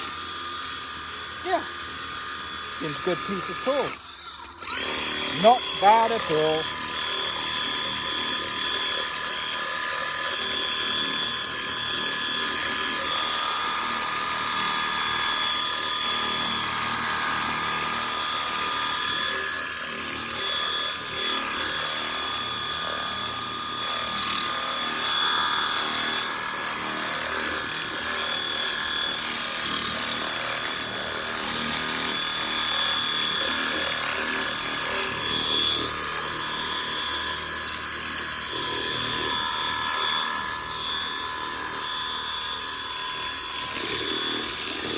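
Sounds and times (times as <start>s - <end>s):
pressure washer motor whine: 0.0s - 44.9s.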